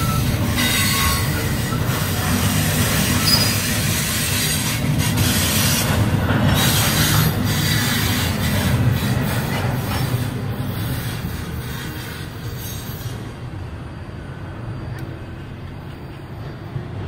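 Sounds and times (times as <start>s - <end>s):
metallic hiss of wheels on track: 0.0s - 16.7s
freight train rumble: 0.0s - 17.0s.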